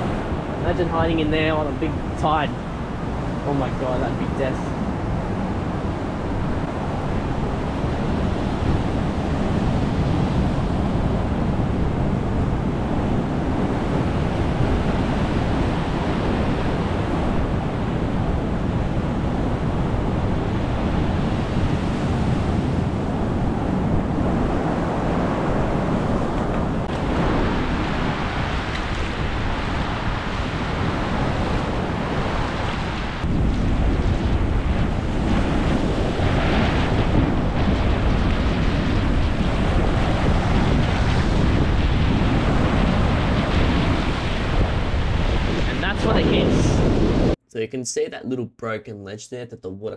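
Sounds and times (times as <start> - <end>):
sea waves on rocky shore: 0.0 - 46.4
wind buffeting microphone: 0.0 - 47.4.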